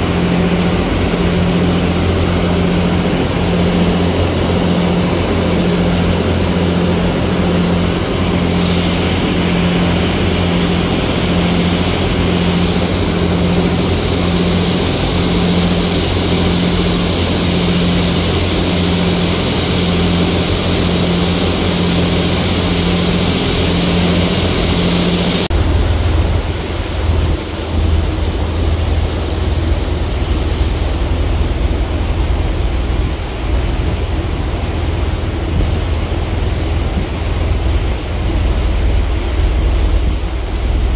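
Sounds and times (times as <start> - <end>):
ferry engines humming: 0.0 - 40.9
rush of wake and wind: 0.0 - 40.9.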